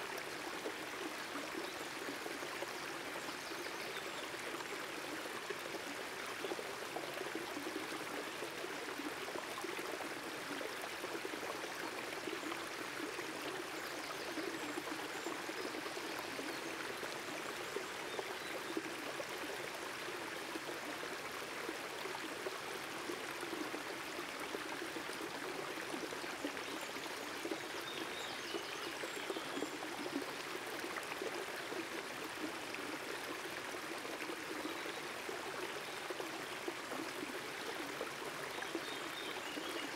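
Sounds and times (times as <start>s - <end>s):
creek splashing over rocks: 0.0s - 39.9s.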